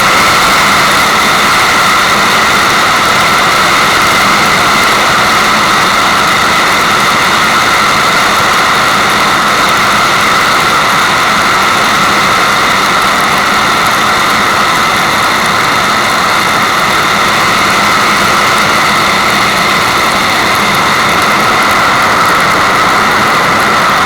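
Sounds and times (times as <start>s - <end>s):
rushing water white noise: 0.0s - 24.0s.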